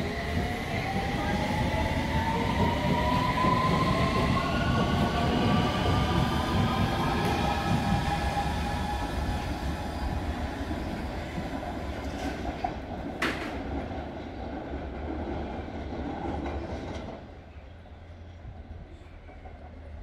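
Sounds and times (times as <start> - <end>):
train rumble and wheel noise: 0.0 - 20.0
train whine: 0.0 - 20.0.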